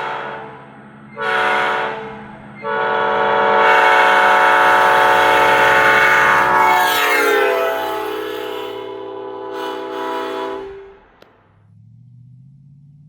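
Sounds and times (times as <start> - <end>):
locomotive air horn: 0.0 - 11.3.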